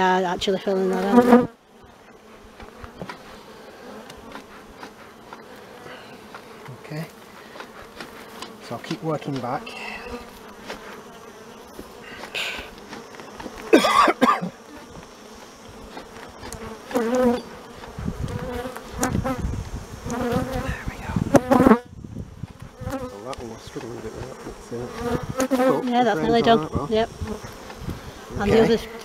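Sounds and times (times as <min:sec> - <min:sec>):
honey bees buzzing: 0:00.0 - 0:29.0.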